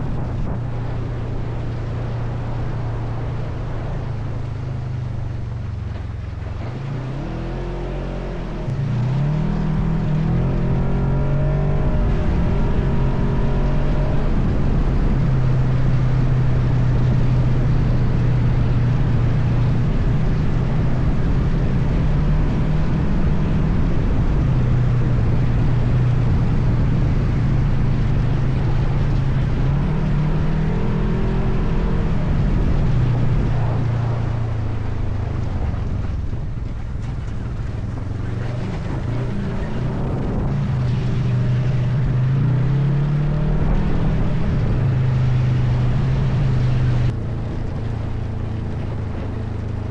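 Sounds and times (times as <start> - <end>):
atv engine running: 0.0 - 49.9
rough-road noise: 0.0 - 49.9
wind: 0.0 - 49.9.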